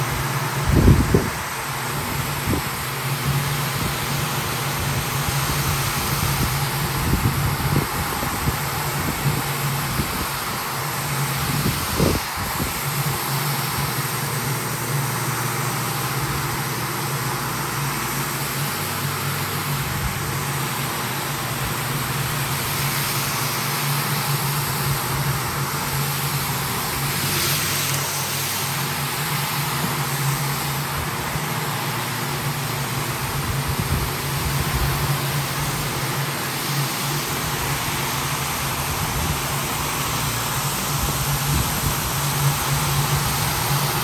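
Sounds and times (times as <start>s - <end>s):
floor machine motor hum: 0.0s - 44.0s
bristles scrubbing wet foam: 1.4s - 44.0s.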